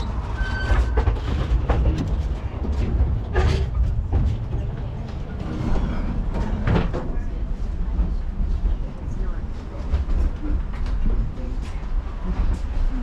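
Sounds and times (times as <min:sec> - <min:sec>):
moving train rumble: 0:00.0 - 0:13.0
wind buffeting microphone: 0:00.0 - 0:13.0
faint passenger voices: 0:01.9 - 0:13.0.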